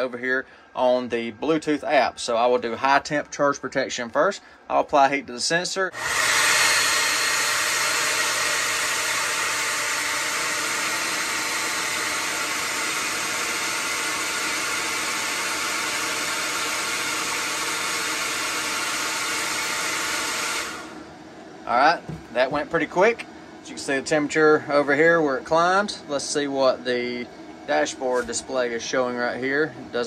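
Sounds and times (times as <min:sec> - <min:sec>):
hot-air blower running: 0:05.9 - 0:30.0.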